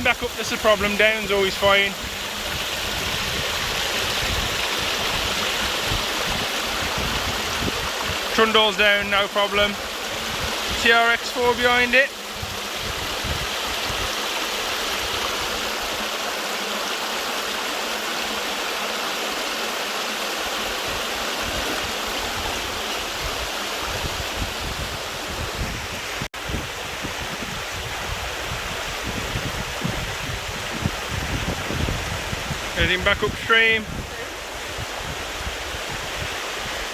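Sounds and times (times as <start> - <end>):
water rushing over rocks: 0.0 - 36.9.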